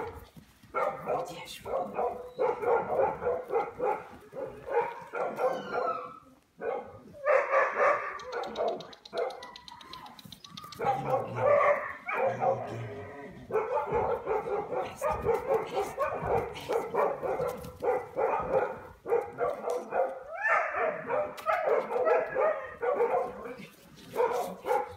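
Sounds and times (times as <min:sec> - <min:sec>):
dog barking: 0:00.0 - 0:09.6, 0:10.7 - 0:24.9.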